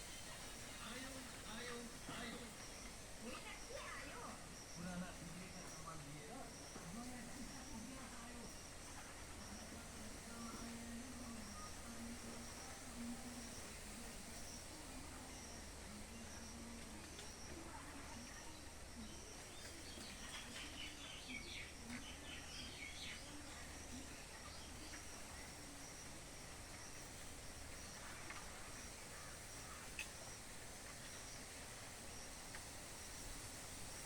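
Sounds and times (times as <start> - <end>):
high insect drone: 0.0 - 34.0.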